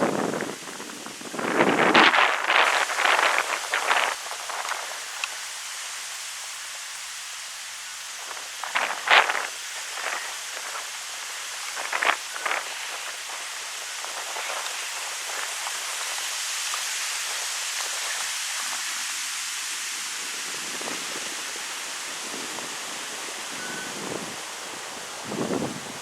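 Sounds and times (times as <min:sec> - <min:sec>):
wind rustling tree leaves: 0:00.0 - 0:26.0.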